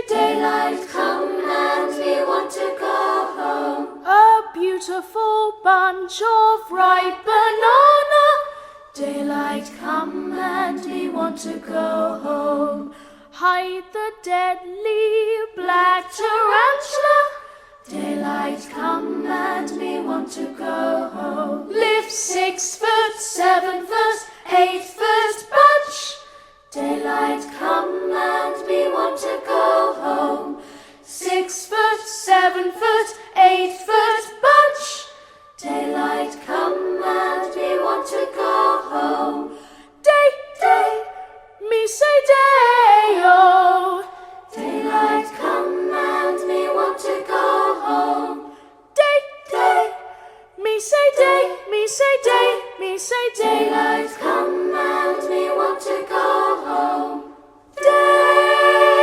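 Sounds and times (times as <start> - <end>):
voices singing in harmony: 0.0 - 59.0.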